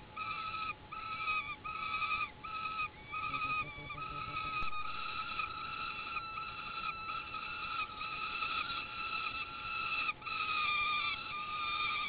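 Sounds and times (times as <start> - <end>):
falcon nestlings begging calls: 0.0 - 12.0.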